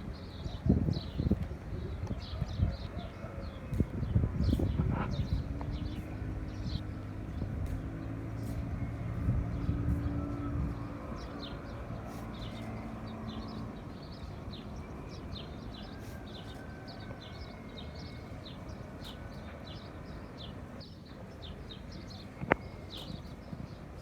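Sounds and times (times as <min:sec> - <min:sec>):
small birds chirping: 0:03.7 - 0:24.0.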